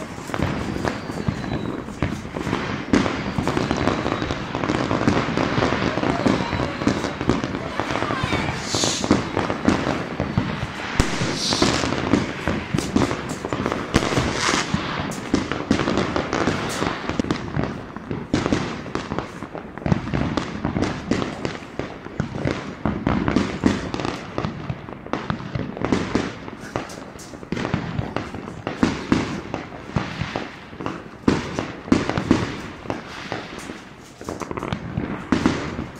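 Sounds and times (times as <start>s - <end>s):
fireworks and firecrackers banging: 0.0s - 35.9s.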